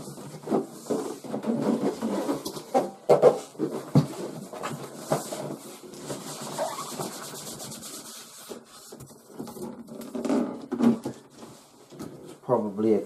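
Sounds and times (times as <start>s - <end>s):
cardboard rustling and scraping: 0.0s - 12.4s.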